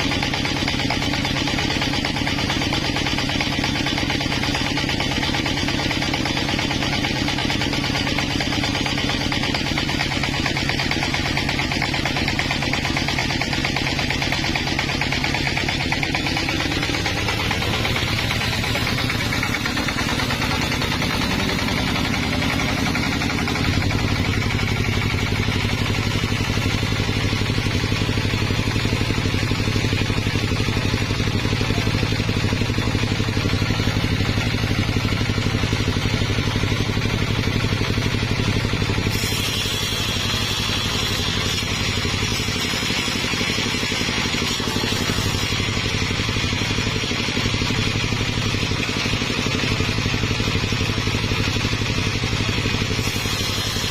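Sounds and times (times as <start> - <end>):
sawmill engine humming: 0.0 - 53.9.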